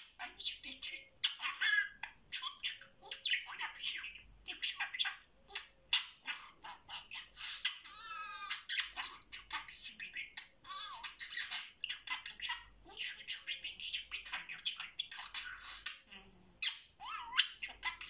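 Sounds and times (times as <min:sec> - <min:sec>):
budgerigar chirping: 0:00.0 - 0:18.0.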